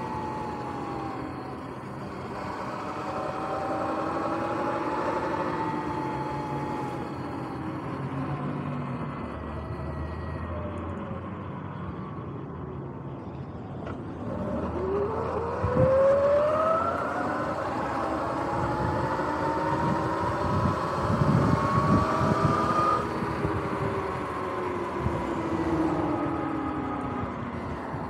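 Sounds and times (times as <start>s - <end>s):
electric motorbike motor whining: 0.0s - 11.2s, 13.8s - 28.0s.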